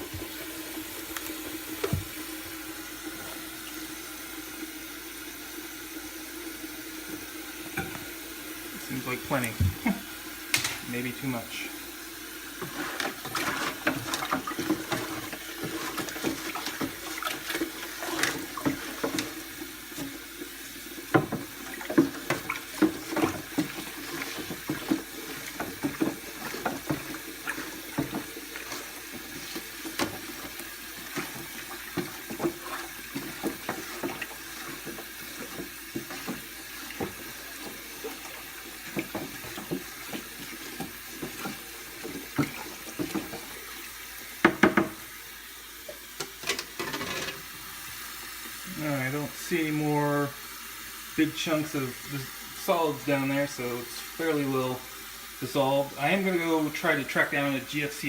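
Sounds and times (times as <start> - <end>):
water sloshing in a container: 0.0 - 4.2, 7.0 - 50.4.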